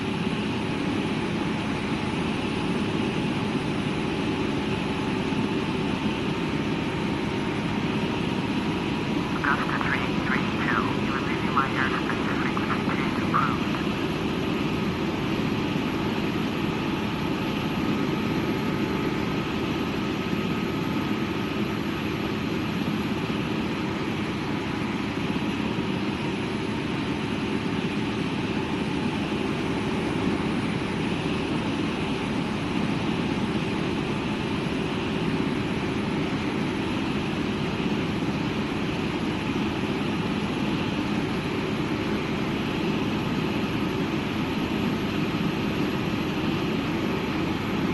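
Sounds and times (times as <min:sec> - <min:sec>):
helicopter turbine and rotor noise: 0:00.0 - 0:47.9.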